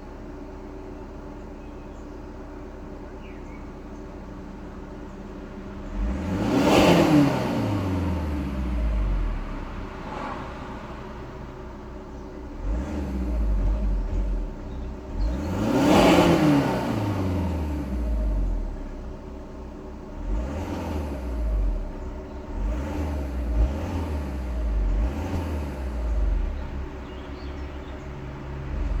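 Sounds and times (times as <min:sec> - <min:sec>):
diesel engine revving: 0:04.9 - 0:29.0.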